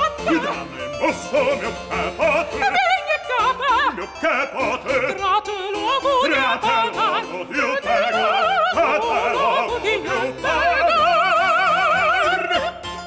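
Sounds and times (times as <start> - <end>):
man singing opera: 0.0 - 12.7
soprano singing opera: 0.0 - 12.9.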